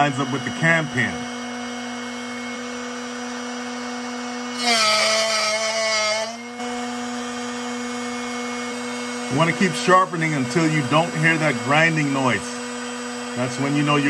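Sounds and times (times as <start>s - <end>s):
drill bit grinding on wheel: 0.0s - 14.0s
sharpener motor humming: 0.0s - 14.0s.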